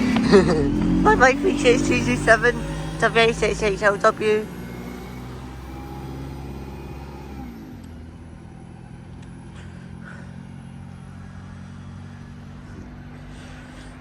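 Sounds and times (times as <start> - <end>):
diesel bus engine: 0.0 - 14.0.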